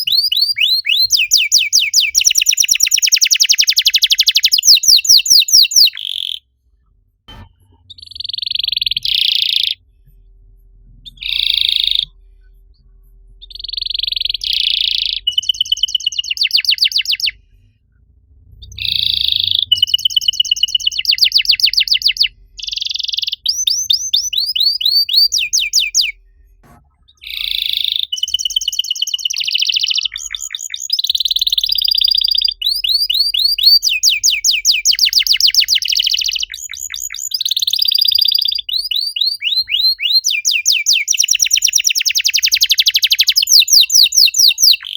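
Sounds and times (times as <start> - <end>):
canary singing trills: 0.0 - 6.5, 7.3 - 9.8, 11.0 - 17.4, 18.6 - 26.2, 26.9 - 44.9.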